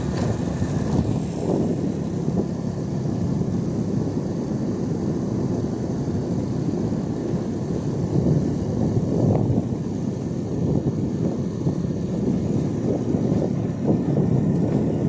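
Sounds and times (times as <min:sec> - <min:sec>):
road vehicle running noise: 0:00.0 - 0:15.0
wind on microphone: 0:00.0 - 0:15.0.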